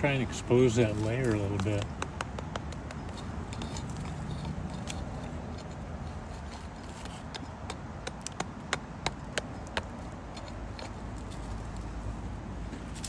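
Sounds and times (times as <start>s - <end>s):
digging tool tapping clay: 0.0s - 11.5s
low steady background noise: 0.0s - 13.0s.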